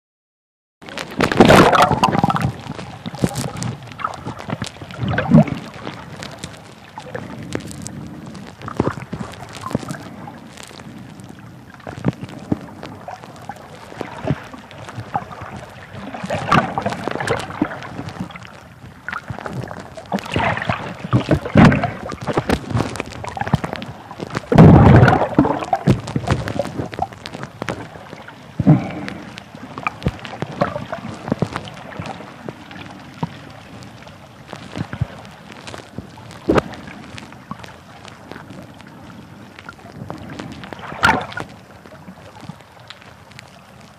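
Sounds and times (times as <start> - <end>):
underwater bubbling and sloshing: 0.8 - 43.9
underwater knocks and clicks: 0.8 - 43.9.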